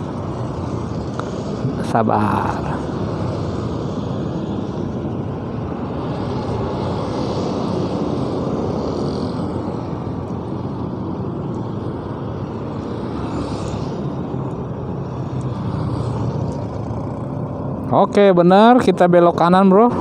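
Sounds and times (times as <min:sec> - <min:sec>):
motorcycles and cars passing: 0:00.0 - 0:20.0.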